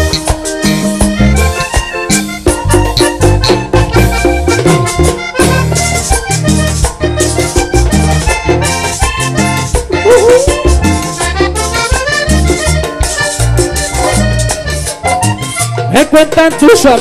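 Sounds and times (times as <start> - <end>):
accordion melody: 0.0 - 17.0
bass: 0.0 - 17.0
hand percussion: 0.0 - 17.0.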